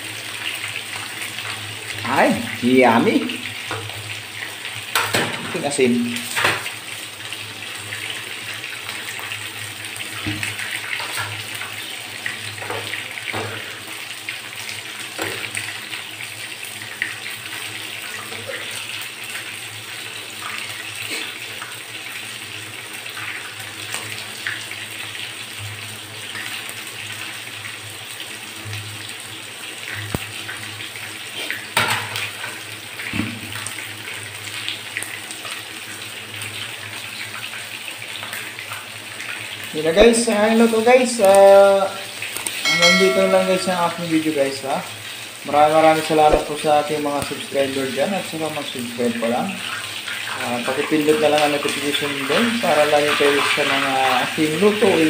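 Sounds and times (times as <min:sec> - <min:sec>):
chicken frying: 0:00.0 - 0:55.0
pan boiling with bubbling hiss: 0:00.0 - 0:55.0.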